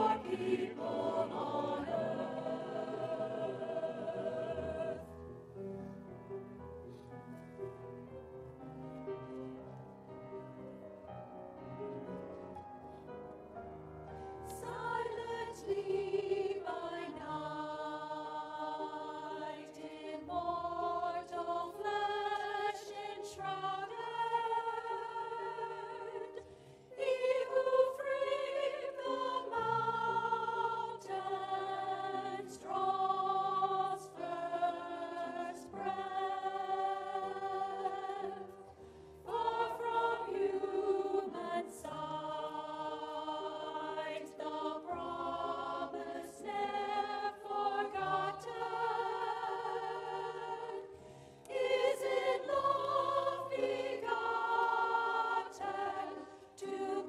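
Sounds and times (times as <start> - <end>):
church choir singing in harmony: 0.0 - 57.0.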